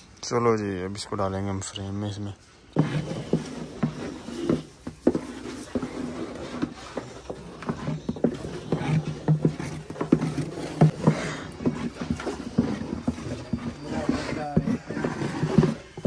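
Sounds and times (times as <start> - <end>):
hand tools knocking on wood: 2.8 - 16.0.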